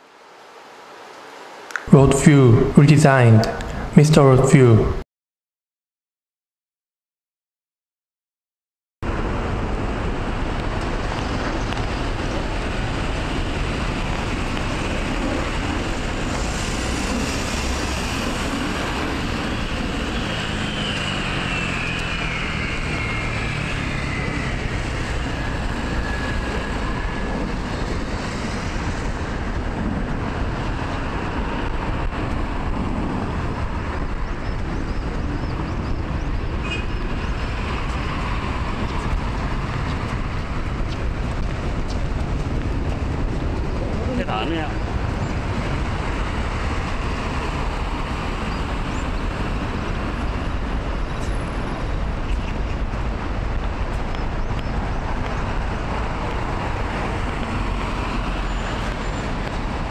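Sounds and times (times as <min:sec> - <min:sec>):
road traffic rumble: 0:00.0 - 0:05.0, 0:09.0 - 0:59.9
passing vehicle whine: 0:09.1 - 0:59.9.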